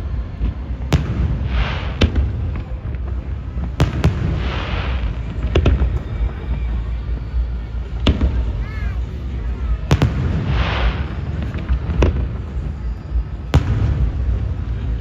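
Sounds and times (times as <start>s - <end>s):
fireworks booming: 0.0s - 15.0s
fireworks crackling: 0.0s - 15.0s
low rumble: 0.0s - 15.0s.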